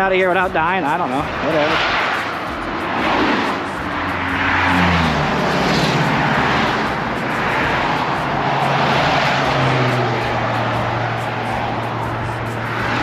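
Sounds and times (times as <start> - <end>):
highway traffic passing: 0.0 - 13.0
low engine hum: 1.2 - 13.0.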